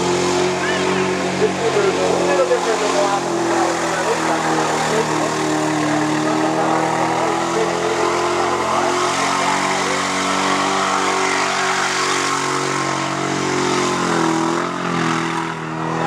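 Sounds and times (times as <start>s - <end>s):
engine revving high: 0.0s - 16.0s.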